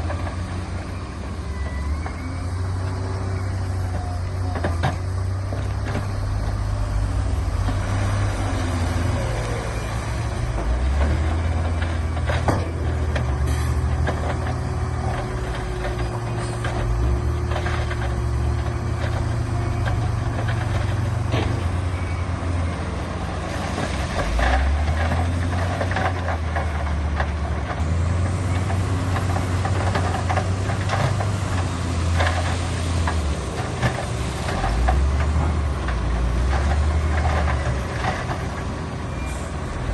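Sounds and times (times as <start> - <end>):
heavy diesel machinery rumbling: 0.0 - 39.9.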